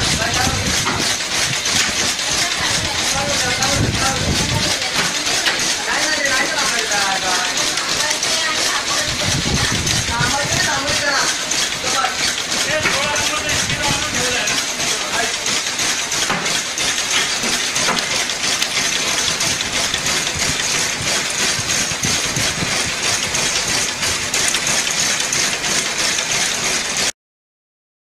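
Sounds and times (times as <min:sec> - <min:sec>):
mechanical whir: 0:00.0 - 0:27.1
rapid machine ticks: 0:00.0 - 0:27.1.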